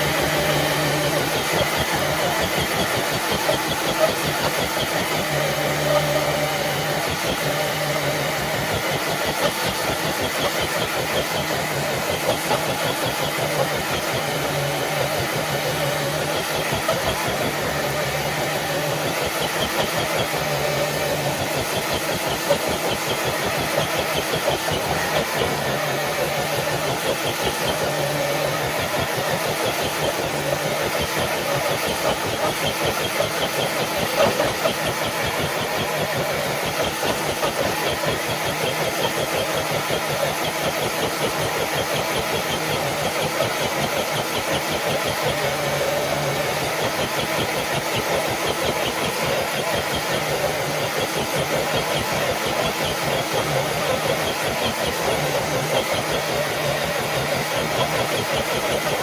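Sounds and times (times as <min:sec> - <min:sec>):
toy truck motor whirring: 0:00.0 - 0:59.0.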